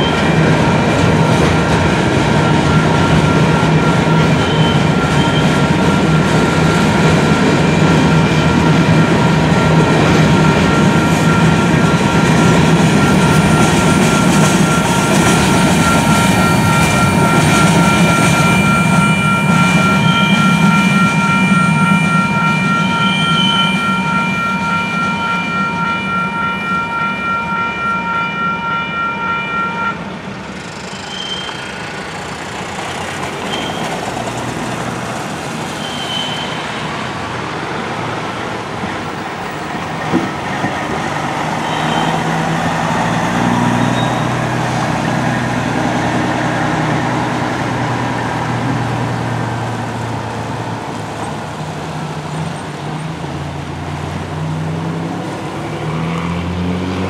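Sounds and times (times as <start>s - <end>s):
crossing bell ringing: 0.0s - 56.2s
freight train rumbling past: 0.0s - 57.0s.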